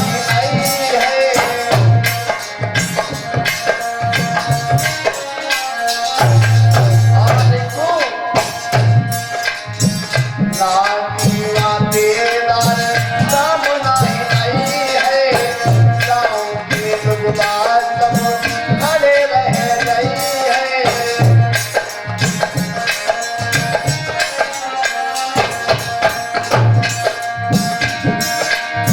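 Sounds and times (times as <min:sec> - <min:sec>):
hand drumming: 0:00.0 - 0:28.9.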